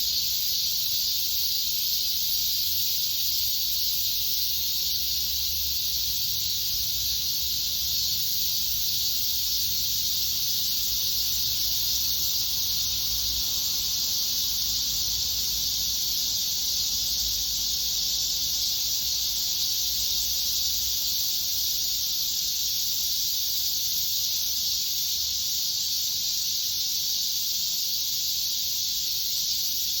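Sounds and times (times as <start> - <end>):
cicadas buzzing: 0.0 - 30.0.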